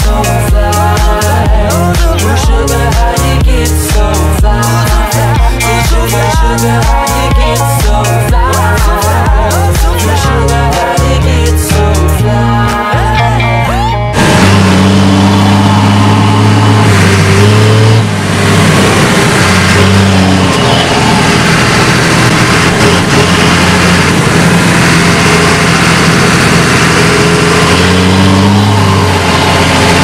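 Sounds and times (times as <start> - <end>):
dense mechanical rush: 0.0 - 13.2, 14.1 - 30.0
diesel engine under load: 0.0 - 30.0.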